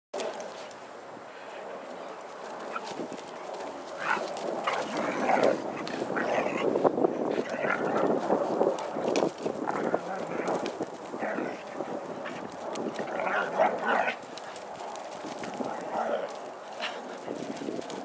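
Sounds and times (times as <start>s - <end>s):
dogs vocalizing: 2.4s - 17.6s.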